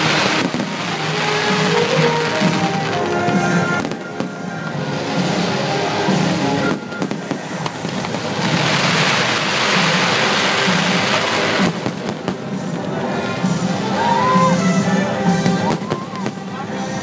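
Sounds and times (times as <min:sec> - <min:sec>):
fireworks bangs: 0:00.0 - 0:17.0
fireworks crackle and hiss: 0:00.0 - 0:17.0
music soundtrack: 0:00.0 - 0:17.0.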